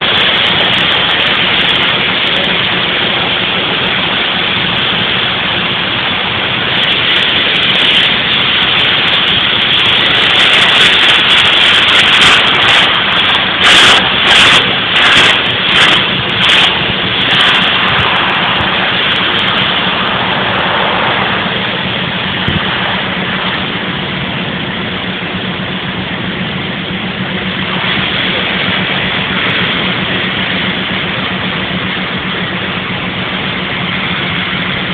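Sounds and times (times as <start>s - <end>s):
heavy machinery humming: 0.0s - 34.9s
louder machine pulses: 0.0s - 34.9s.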